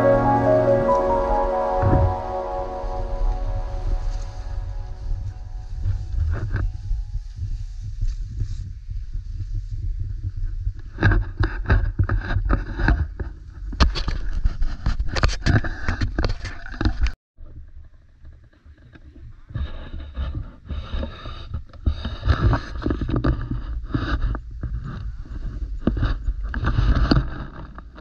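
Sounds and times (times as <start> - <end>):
wind rumble on microphone: 1.5 - 28.0.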